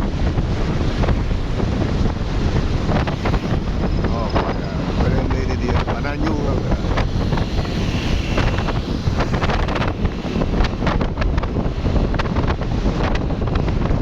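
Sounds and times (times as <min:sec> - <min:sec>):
traffic noise: 0:00.0 - 0:14.0
wind buffeting microphone: 0:00.0 - 0:14.0.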